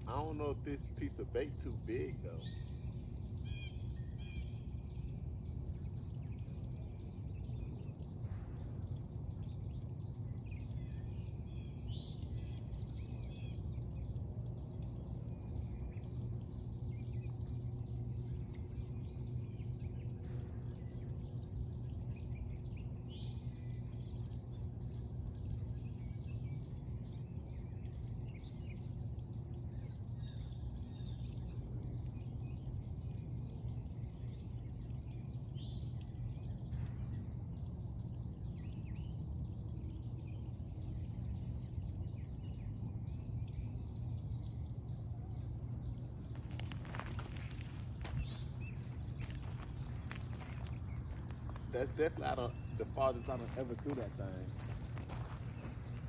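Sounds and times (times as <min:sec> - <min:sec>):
low outdoor background noise: 0:00.0 - 0:56.0.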